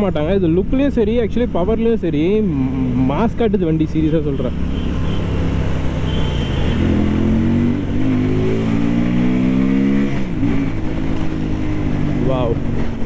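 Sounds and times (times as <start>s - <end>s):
motorcycle engine revving: 1.4s - 13.0s.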